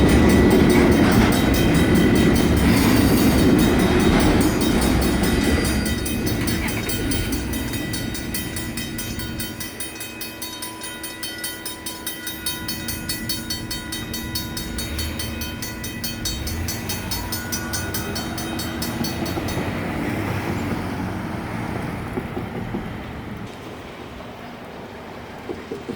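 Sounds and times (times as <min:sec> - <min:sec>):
crossing bells ringing: 0:00.0 - 0:21.8
freight train clattering past: 0:00.0 - 0:25.9.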